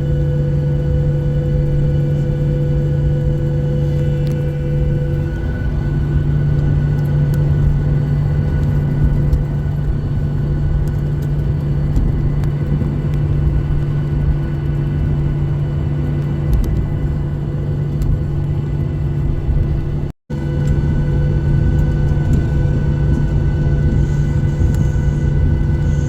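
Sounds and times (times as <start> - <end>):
airliner engines rumbling in cabin: 0.0 - 26.0
whining tones: 0.0 - 26.0.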